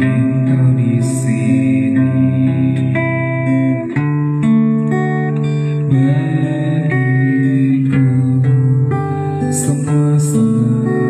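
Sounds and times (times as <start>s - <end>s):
acoustic guitar through sound system: 0.0s - 11.0s.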